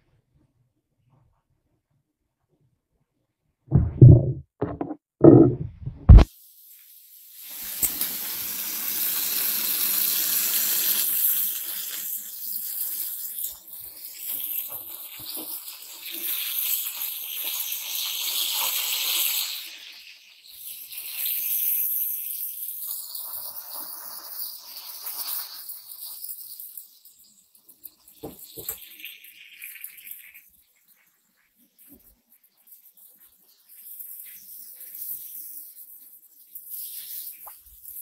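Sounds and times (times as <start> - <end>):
fish frying in hot oil: 6.3 - 38.0.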